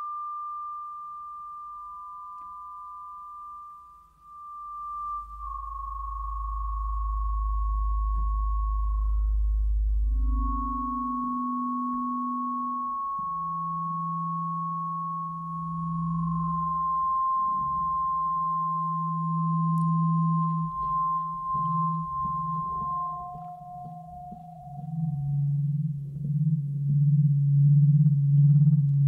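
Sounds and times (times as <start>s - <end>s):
high whistling feedback tone: 0.0s - 29.0s
low humming tones: 0.0s - 29.0s
lower whistle: 0.0s - 29.0s.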